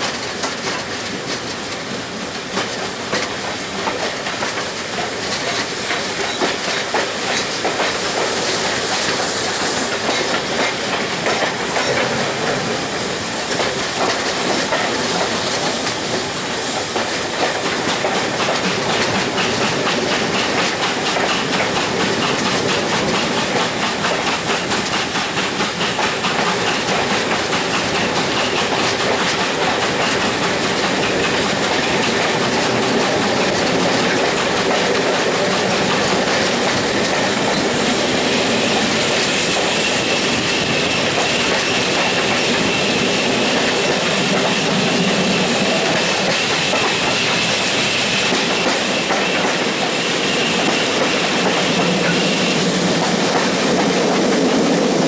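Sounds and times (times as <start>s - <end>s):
steam train rushing: 0.0s - 55.0s
wheels clicking over rail joints: 0.0s - 55.0s.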